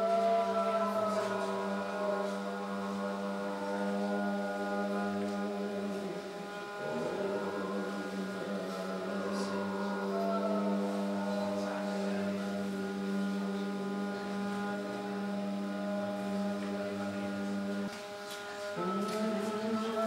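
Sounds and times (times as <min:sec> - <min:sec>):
chant-like music over a drone: 0:00.0 - 0:20.0.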